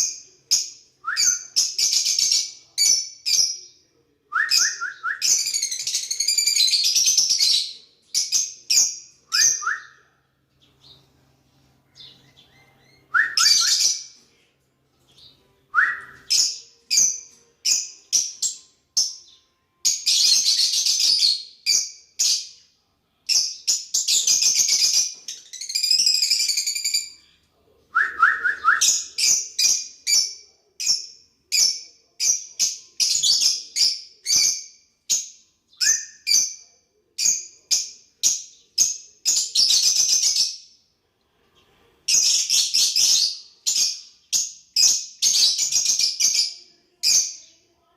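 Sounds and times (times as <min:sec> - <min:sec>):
lovebirds chattering and chirping: 0:04.6 - 0:15.5, 0:16.2 - 0:27.5, 0:28.8 - 0:40.8, 0:41.4 - 0:47.7.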